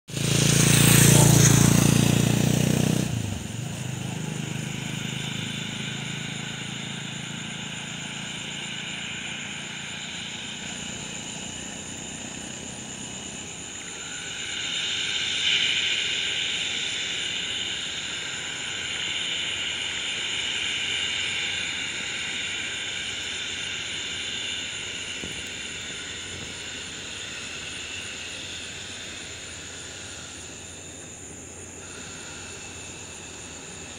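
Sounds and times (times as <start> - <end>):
close engine rumble: 0.1 - 33.9
distant jet engines whining: 0.1 - 33.9.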